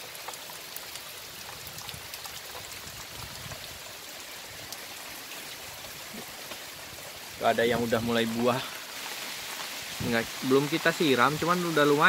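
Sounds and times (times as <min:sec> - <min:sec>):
steady rain hiss: 0:00.0 - 0:12.0
water dripping from roof edge: 0:00.0 - 0:12.0.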